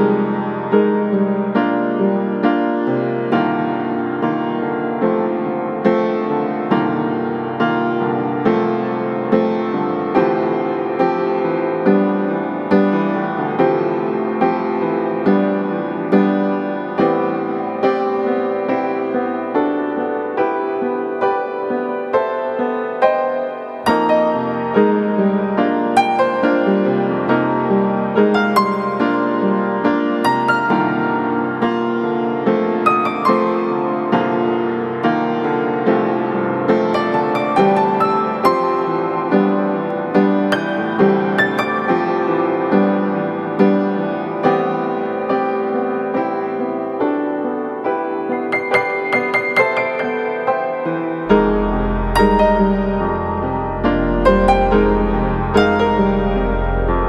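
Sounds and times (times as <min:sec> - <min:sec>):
gentle piano piece: 0:00.0 - 0:57.0.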